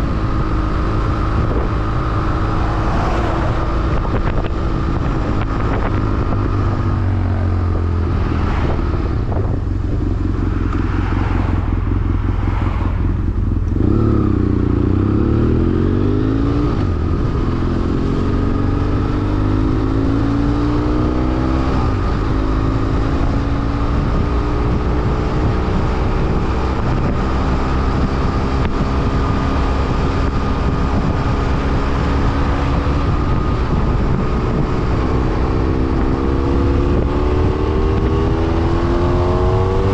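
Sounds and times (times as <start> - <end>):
motorcycle engine under way: 0.0 - 39.9
wind noise: 0.0 - 39.9.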